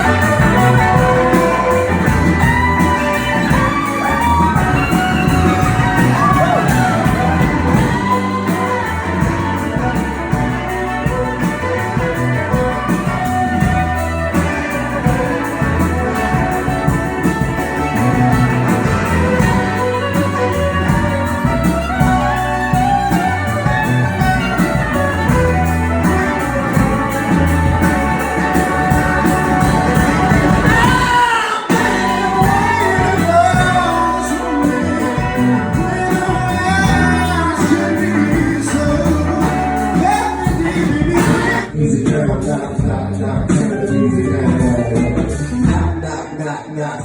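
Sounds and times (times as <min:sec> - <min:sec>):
country music with guitar and bass: 0:00.0 - 0:46.9.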